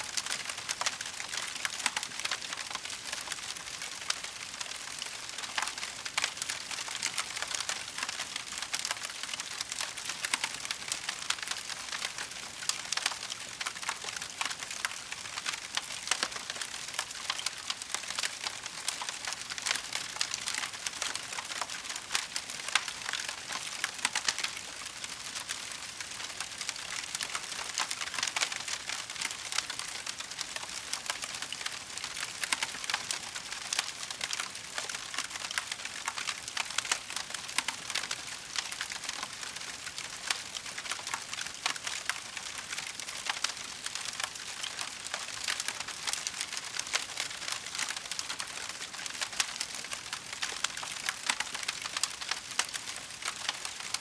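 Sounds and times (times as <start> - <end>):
wood fire crackling: 0.2 - 54.0.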